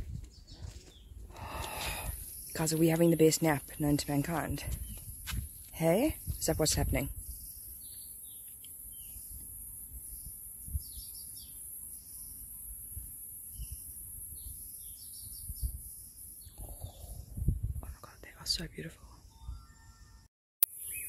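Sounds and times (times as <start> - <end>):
small birds chirping: 0.1 - 12.8, 13.5 - 20.0, 20.7 - 21.0.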